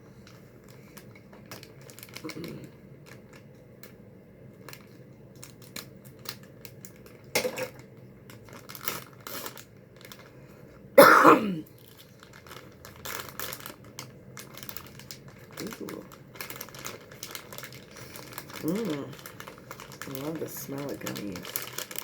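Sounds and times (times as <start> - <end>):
plastic candy packaging crinkling: 0.1 - 10.9, 11.6 - 22.0.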